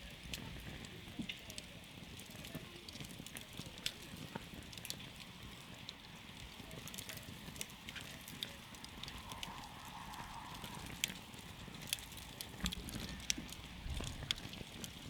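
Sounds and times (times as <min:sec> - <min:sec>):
campfire crackling and popping: 0:00.0 - 0:15.0
low rush of burning: 0:00.1 - 0:15.0.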